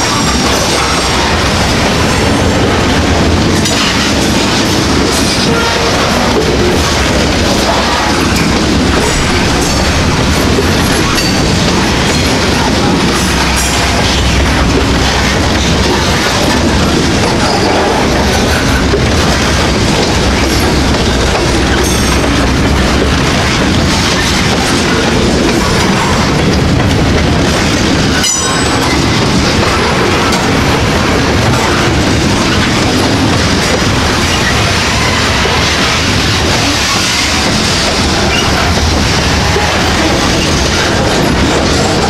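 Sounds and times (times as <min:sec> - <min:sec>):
freight train wheels rumbling: 0:00.0 - 0:42.0
wheels clacking over rail joints: 0:00.0 - 0:42.0.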